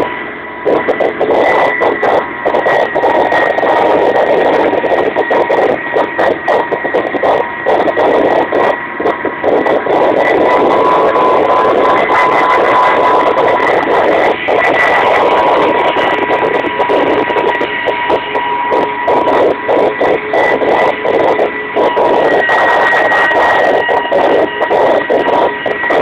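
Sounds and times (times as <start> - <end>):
constant high tone: 0.0 - 26.0
helicopter engines and rotors: 0.0 - 26.0.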